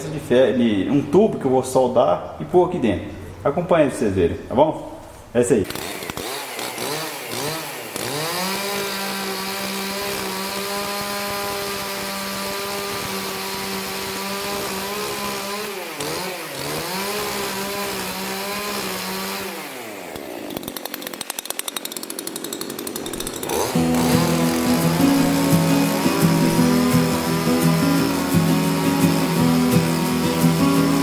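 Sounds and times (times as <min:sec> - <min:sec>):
chainsaw cutting wood: 0:05.6 - 0:31.0.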